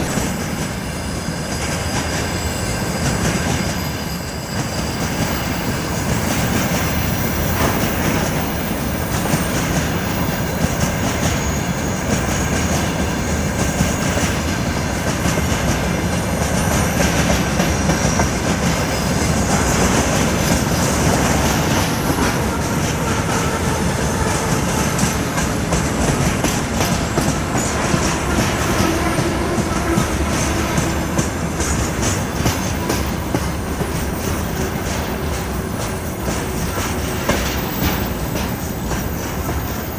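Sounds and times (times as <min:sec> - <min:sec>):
faint high wheel squeal: 0:00.0 - 0:39.9
freight train rolling: 0:00.0 - 0:39.9
wheels clacking over rail joints: 0:00.0 - 0:39.9.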